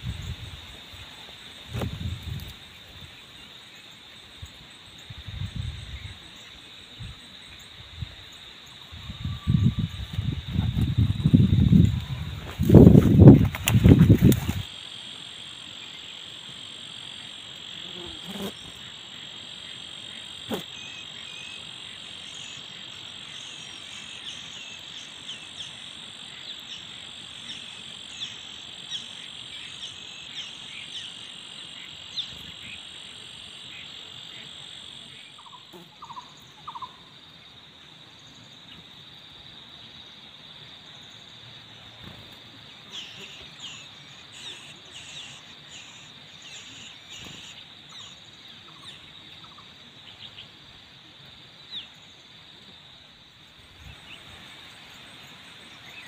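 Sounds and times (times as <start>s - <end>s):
insect chirps: 0.0s - 56.0s
insect chorus drone: 0.0s - 56.0s.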